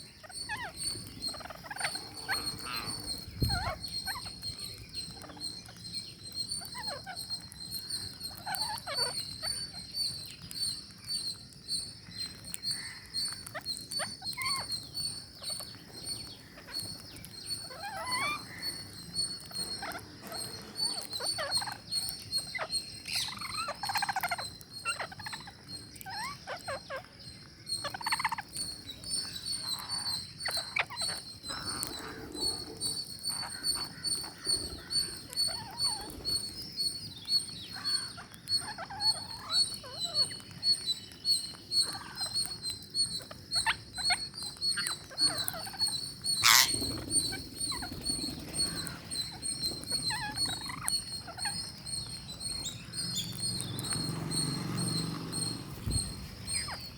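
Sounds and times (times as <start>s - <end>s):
parakeets chattering and squawking: 0.0s - 56.9s.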